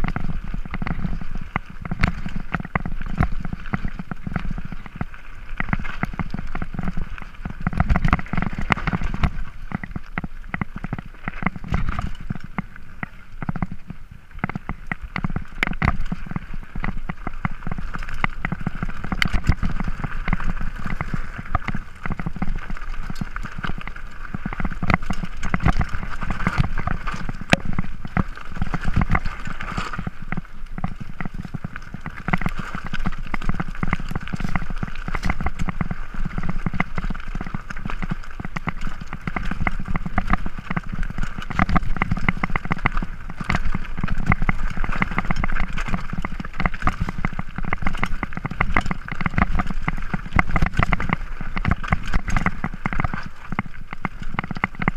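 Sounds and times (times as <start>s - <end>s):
mountain bike rattling over rocks: 0.0s - 54.9s.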